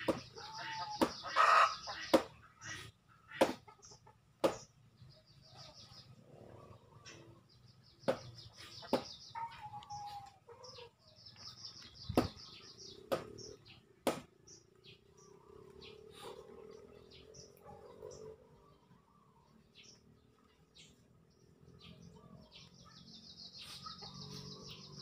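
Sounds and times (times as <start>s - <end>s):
chickens calling: 0.0s - 25.0s
small birds chirping: 0.0s - 25.0s.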